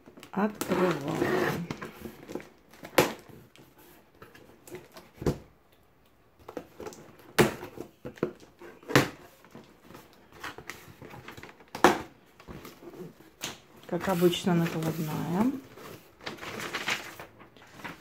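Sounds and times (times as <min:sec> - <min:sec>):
cardboard rustling: 0:00.0 - 0:05.4, 0:06.4 - 0:18.0.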